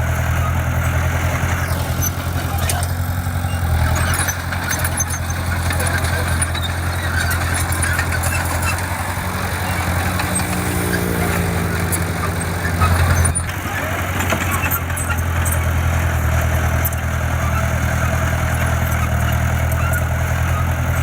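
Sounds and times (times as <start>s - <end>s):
diesel machinery engine humming: 0.0s - 21.0s.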